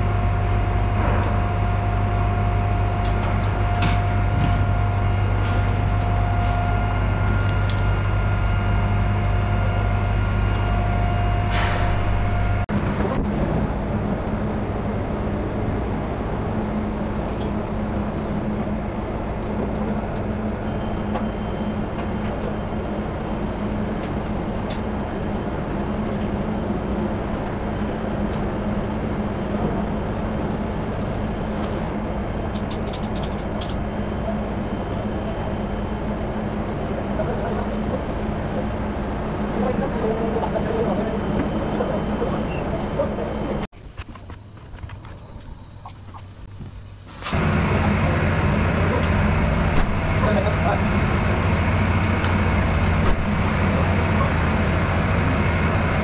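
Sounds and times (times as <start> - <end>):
machinery hum with steady tones: 0.0 - 56.0.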